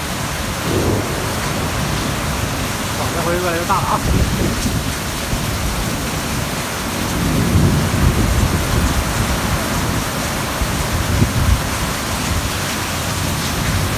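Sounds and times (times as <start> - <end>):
thunder rumbling: 0.0 - 12.6
heavy rain pouring: 0.0 - 13.9.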